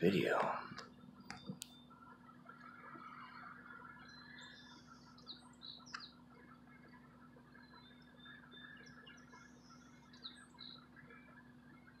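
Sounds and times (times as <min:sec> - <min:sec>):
faint bird chirps: 0:00.0 - 0:12.0
low steady hum: 0:00.0 - 0:12.0.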